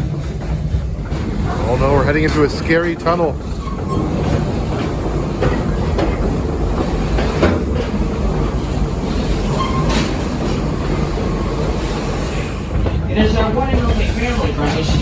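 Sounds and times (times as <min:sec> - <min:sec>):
train rumbling: 0:00.0 - 0:15.0
wheels clacking over rails: 0:00.0 - 0:15.0.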